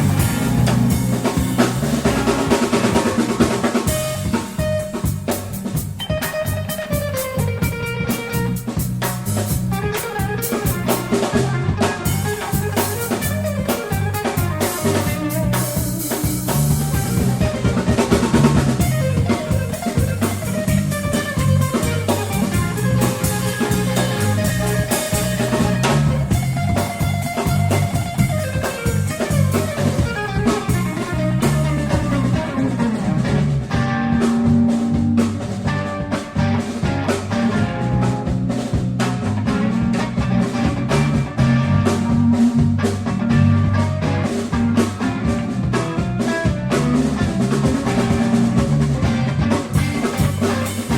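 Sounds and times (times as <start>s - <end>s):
bass line: 0.0s - 50.9s
drum kit beat: 0.0s - 50.9s
electric guitar: 0.0s - 50.9s.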